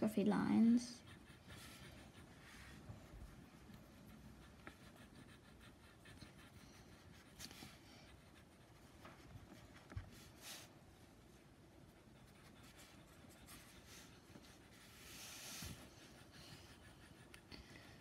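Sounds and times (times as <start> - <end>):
marker pen scratching on paper: 0.9 - 10.7, 11.8 - 18.0.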